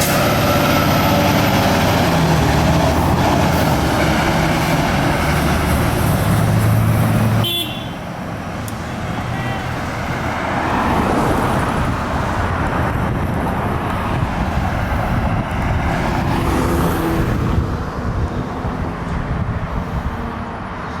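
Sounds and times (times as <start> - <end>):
fire truck engine: 0.0 - 21.0.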